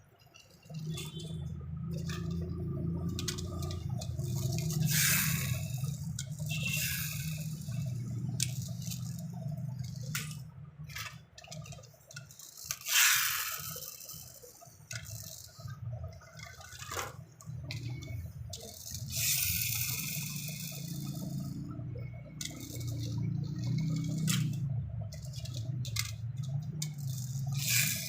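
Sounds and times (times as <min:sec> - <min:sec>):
low steady hum: 0:00.0 - 0:28.0
small clicks: 0:00.2 - 0:28.0.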